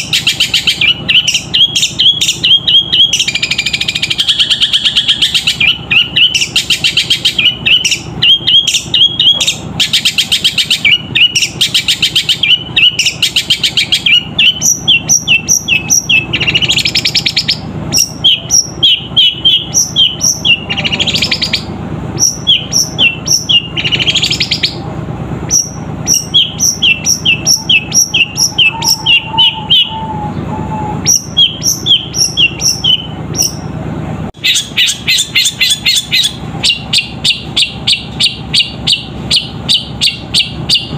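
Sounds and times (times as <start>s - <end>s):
shrike chirping: 0.0s - 24.8s, 25.5s - 33.7s, 34.4s - 40.9s.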